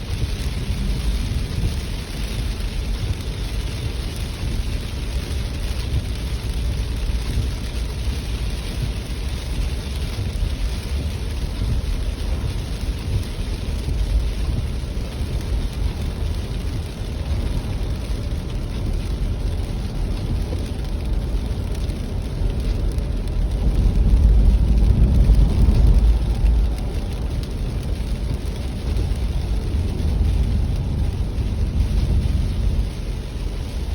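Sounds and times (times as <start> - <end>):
deep low rumble: 0.0 - 33.9
heavy rain: 0.0 - 33.9.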